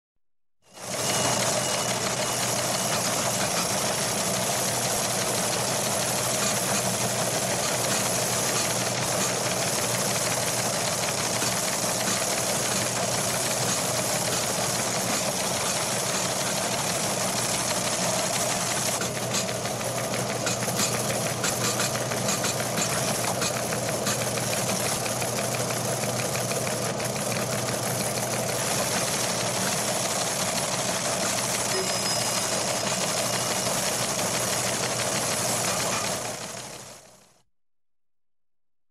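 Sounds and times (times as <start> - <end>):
teletype machines clattering: 0.8 - 37.2.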